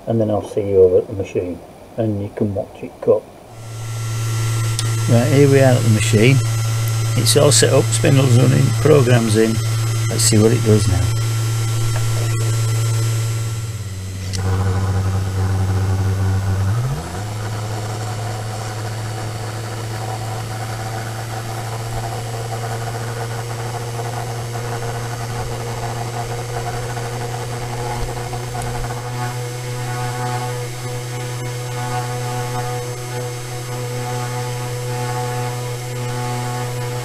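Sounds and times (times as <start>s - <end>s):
router spindle cutting wood: 3.5s - 37.0s.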